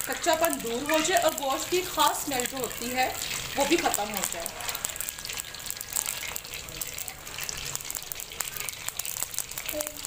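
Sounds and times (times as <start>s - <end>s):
meat deep-frying in hot oil: 0.0s - 10.0s
oil crackling and popping: 0.0s - 10.0s.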